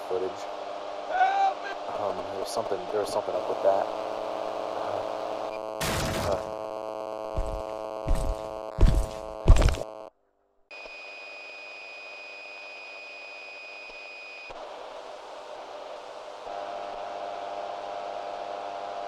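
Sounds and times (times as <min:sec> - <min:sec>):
buzzing hum: 0:00.0 - 0:19.0.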